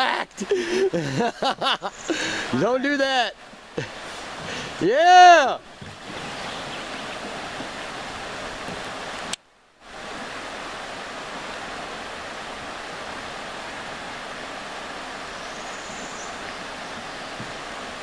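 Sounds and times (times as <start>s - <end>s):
whitewater rushing: 0.0s - 18.0s.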